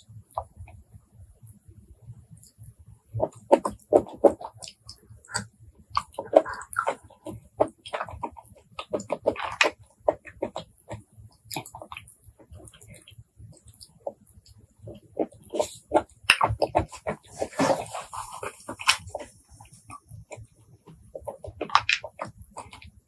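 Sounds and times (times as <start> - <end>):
chewing shellfish: 2.3 - 23.0.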